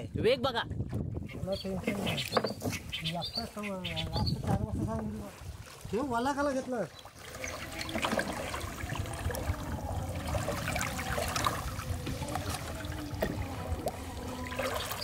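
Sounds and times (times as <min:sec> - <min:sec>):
water splashing: 0:01.7 - 0:15.0
water trickling: 0:02.2 - 0:15.0.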